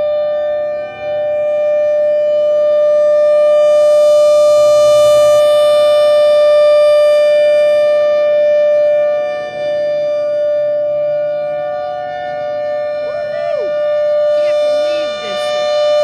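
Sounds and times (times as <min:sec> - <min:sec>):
warning siren steady tone: 0:00.0 - 0:16.0.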